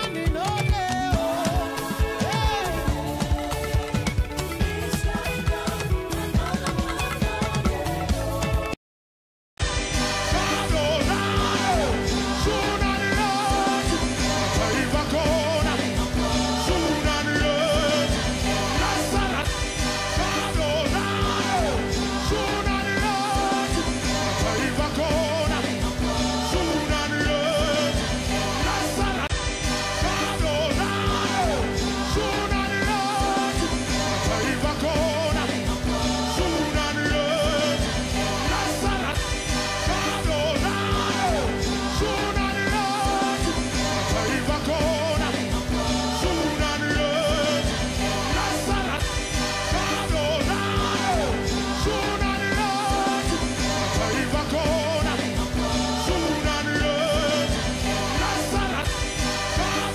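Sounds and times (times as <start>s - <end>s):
song with singing voice: 0.0s - 8.8s, 9.6s - 59.9s.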